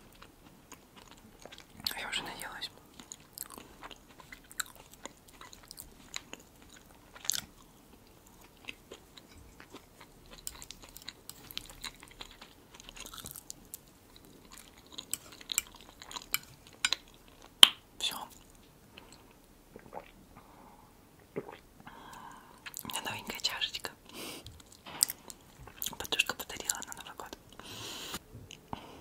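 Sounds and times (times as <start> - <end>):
chewing soft salad: 0.0 - 20.2, 24.1 - 28.7.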